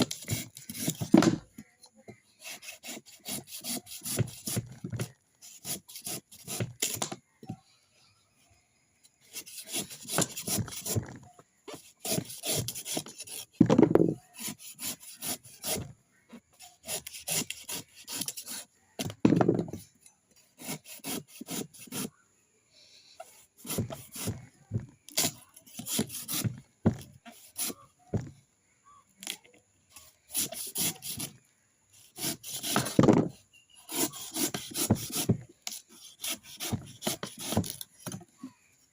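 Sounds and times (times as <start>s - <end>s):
scraping a coconut: 0.0s - 7.4s, 9.1s - 22.2s, 23.2s - 28.3s, 29.2s - 38.2s.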